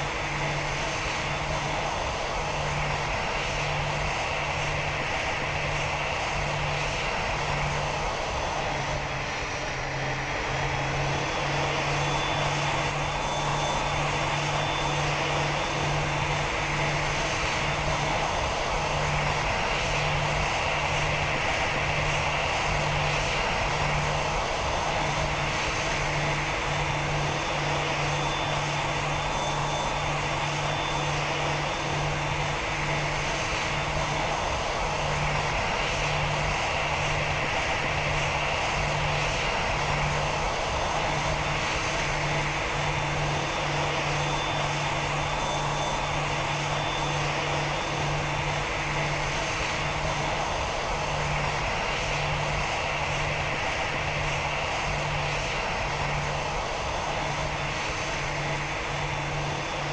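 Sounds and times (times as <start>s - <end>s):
aircraft engine noise: 0.0s - 59.9s.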